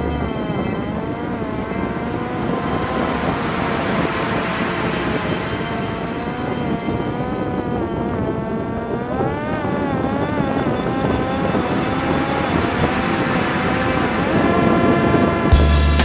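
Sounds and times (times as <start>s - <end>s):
drone propeller whining: 0.0s - 15.5s
wind rush: 0.0s - 15.5s.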